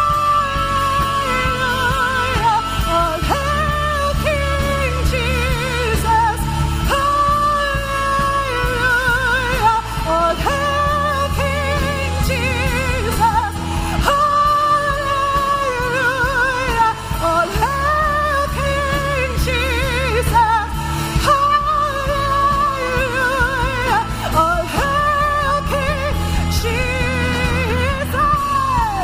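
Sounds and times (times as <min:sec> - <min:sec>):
worship band with sustained bass: 0:00.0 - 0:29.0.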